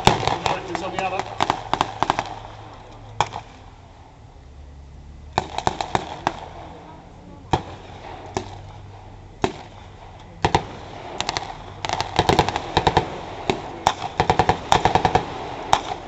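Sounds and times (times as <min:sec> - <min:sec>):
gunfire shots and bursts: 0:00.0 - 0:03.6, 0:05.3 - 0:06.8, 0:07.5 - 0:16.0.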